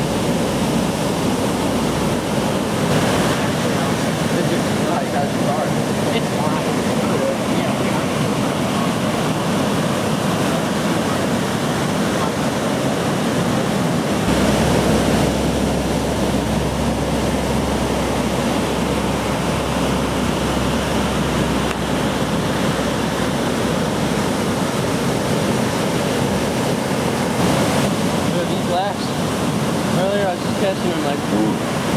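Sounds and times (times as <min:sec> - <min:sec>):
waves crashing: 0:00.0 - 0:31.9.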